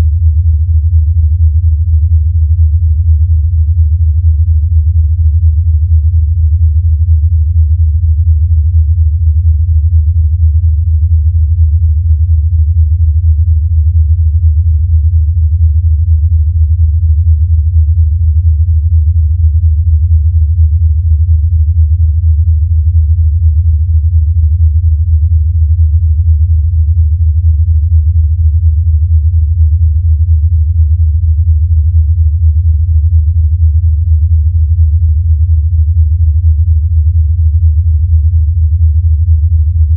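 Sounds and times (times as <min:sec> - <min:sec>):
low hum with rapid flutter: 0:00.0 - 0:39.9.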